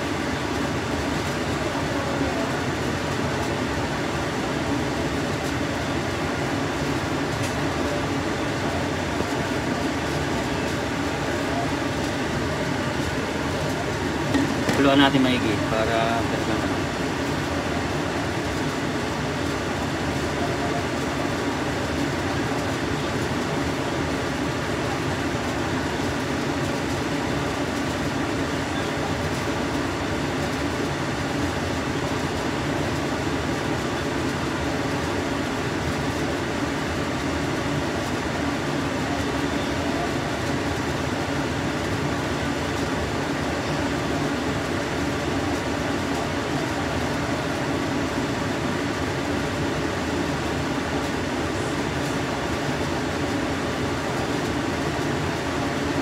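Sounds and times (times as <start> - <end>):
steady rushing hum: 0.0 - 56.0.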